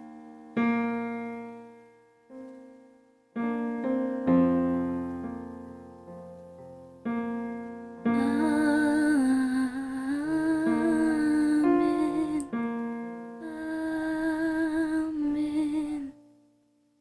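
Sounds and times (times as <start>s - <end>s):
slow piano chords: 0.0s - 16.7s.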